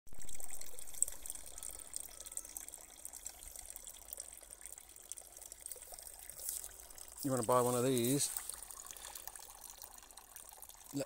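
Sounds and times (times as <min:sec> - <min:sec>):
water running and trickling: 0:00.1 - 0:11.0.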